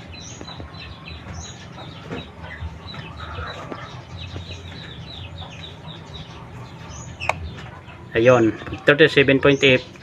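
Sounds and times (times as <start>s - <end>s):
chickens peeping: 0.0s - 10.0s.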